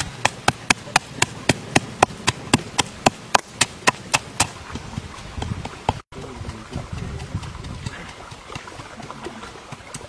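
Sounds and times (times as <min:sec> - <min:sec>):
pestle pounding in clay mortar: 0:00.0 - 0:10.0.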